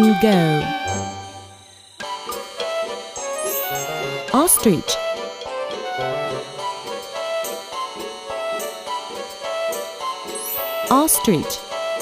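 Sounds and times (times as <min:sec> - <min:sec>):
bouncy children's tune: 0:02.2 - 0:12.0.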